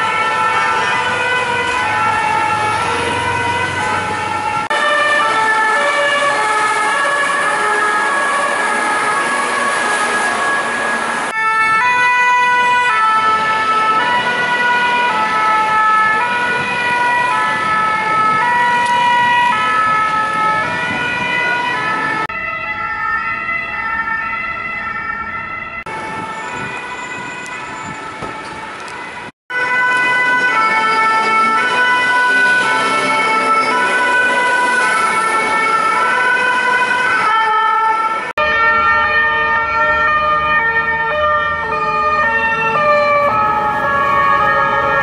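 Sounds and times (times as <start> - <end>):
city traffic: 0.0 - 45.0
two-tone sirens: 0.0 - 45.0.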